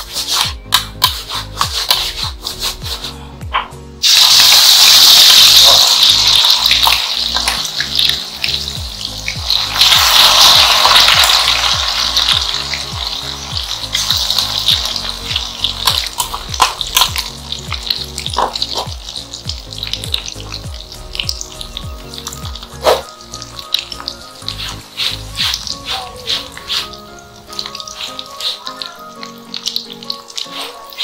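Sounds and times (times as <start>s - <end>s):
batter sizzling in hot oil: 0.0s - 2.8s, 4.0s - 31.0s.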